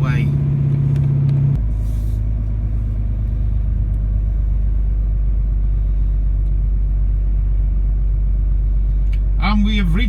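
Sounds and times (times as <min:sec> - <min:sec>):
road noise: 0:00.0 - 0:10.0
truck diesel engine drone: 0:00.0 - 0:10.0.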